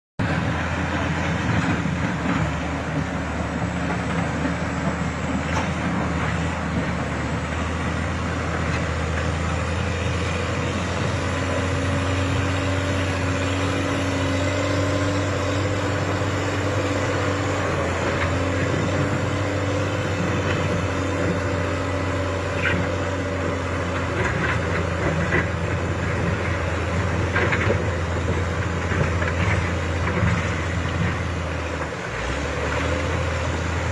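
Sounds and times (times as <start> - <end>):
diesel engine droning: 0.2 - 33.9.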